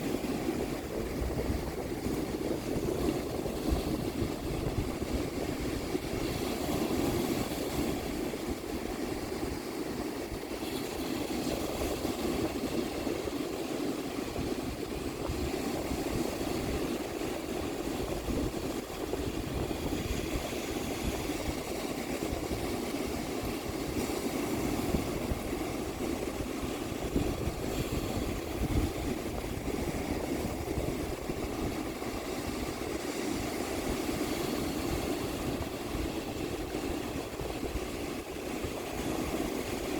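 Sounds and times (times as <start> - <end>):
ocean surf washing onto beach: 0.0 - 39.9
wind gusting across microphone: 0.0 - 39.9.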